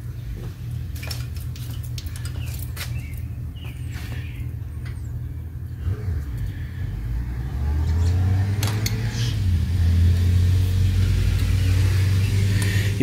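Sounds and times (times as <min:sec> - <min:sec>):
low engine-like rumble: 0:00.0 - 0:13.0.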